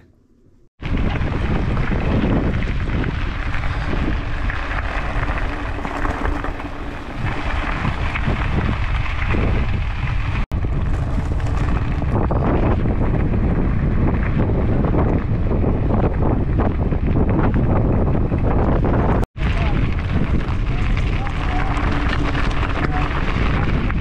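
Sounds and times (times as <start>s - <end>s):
bike tyres rolling on gravel: 0.8s - 24.0s
wind buffeting microphone: 0.8s - 24.0s.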